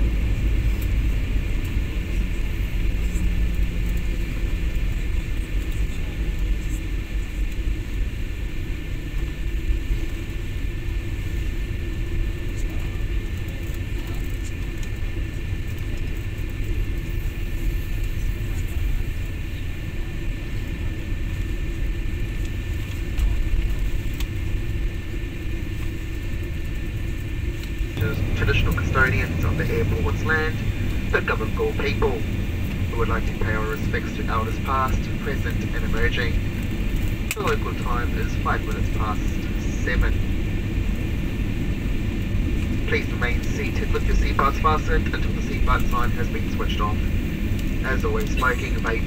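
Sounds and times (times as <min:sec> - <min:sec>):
airliner cabin rumble: 0:00.0 - 0:49.0
faint constant whine: 0:00.0 - 0:49.0.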